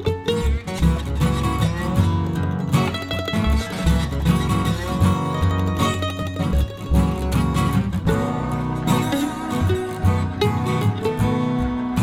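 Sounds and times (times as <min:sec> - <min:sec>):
acoustic guitar music: 0:00.0 - 0:12.0
bass line: 0:00.0 - 0:12.0.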